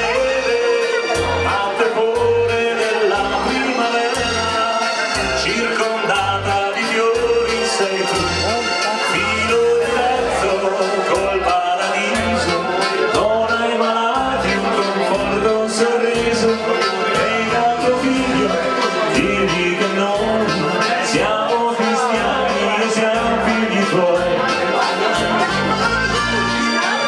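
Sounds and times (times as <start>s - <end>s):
dance band over loudspeaker: 0.0s - 27.0s.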